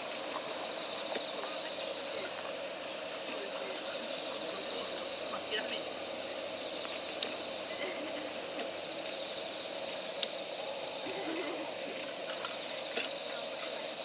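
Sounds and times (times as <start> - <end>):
wood fire crackling: 0.1 - 12.9.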